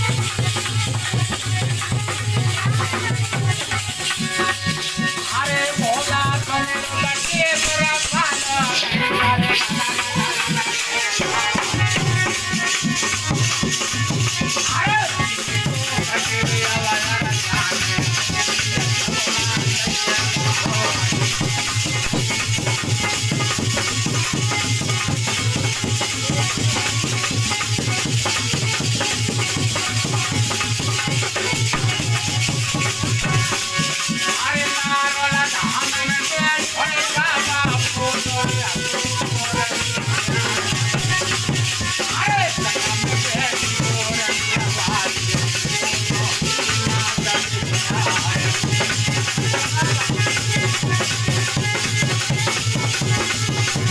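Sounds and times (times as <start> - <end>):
drum beat: 0.0 - 53.9
jingling percussion: 0.0 - 53.9.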